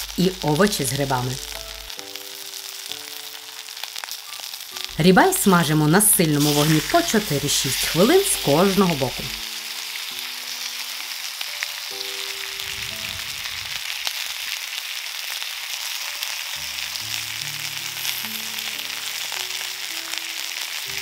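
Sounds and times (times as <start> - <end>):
food sizzling on hot stone: 0.0 - 21.0
soft background music: 0.0 - 21.0.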